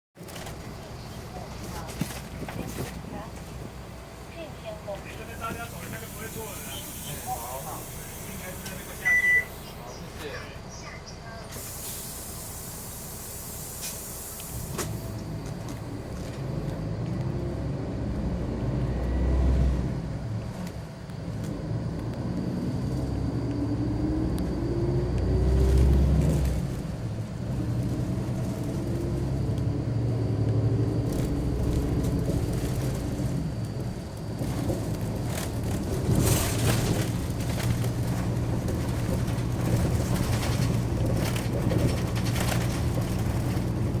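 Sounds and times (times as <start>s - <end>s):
bus engine: 0.2s - 44.0s
road noise: 0.2s - 44.0s.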